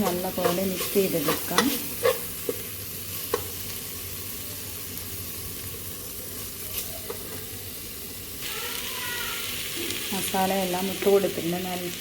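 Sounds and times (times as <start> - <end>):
masala sizzling in a pan: 0.0 - 12.0.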